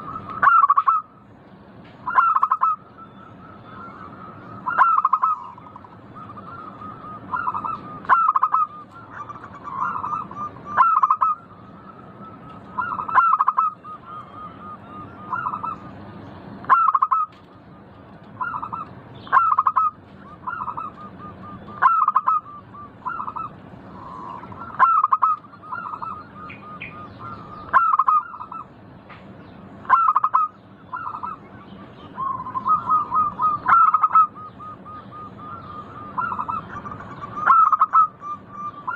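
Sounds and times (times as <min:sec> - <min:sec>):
dove cooing song: 0:00.0 - 0:01.1, 0:01.9 - 0:28.8, 0:29.8 - 0:38.9.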